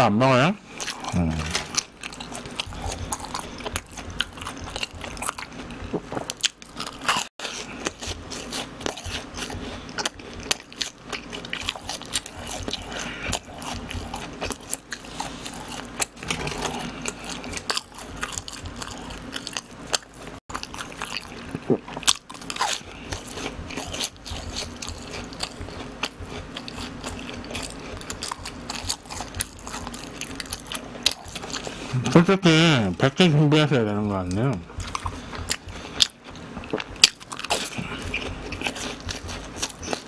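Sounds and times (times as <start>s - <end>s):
person chewing crunchy food: 0.6s - 40.0s.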